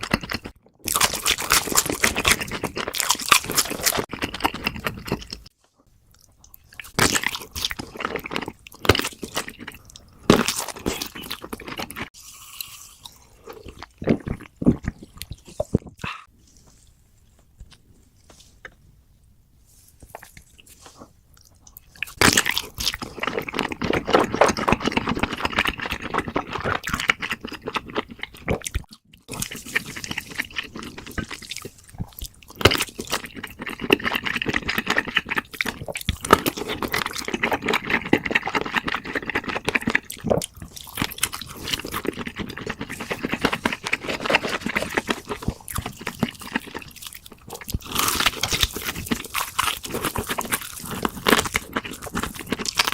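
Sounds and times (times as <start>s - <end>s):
wet chewing and crunching: 0.0s - 5.5s, 6.1s - 16.8s, 20.1s - 52.9s.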